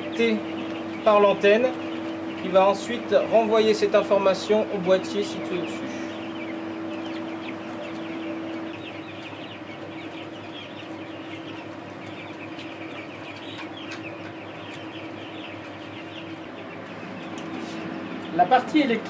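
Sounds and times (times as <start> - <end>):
chicks peeping: 0.0 - 19.0
steady hum: 0.0 - 19.0.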